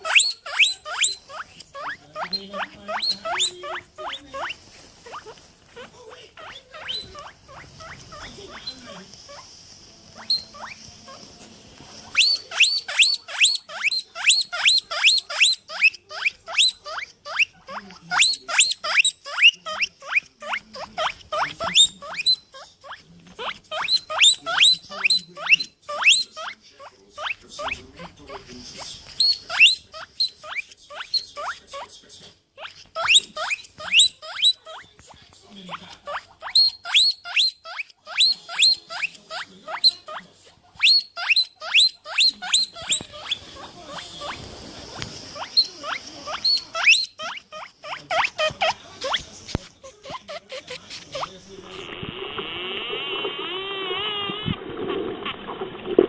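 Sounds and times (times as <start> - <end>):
small animal squeaking: 0.0 - 9.5, 10.1 - 11.3, 12.0 - 32.0, 32.6 - 54.6.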